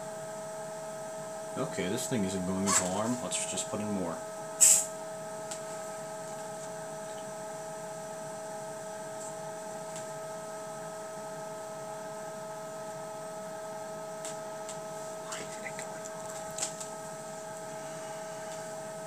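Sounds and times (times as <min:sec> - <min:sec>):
fan humming with whine: 0:00.0 - 0:19.0.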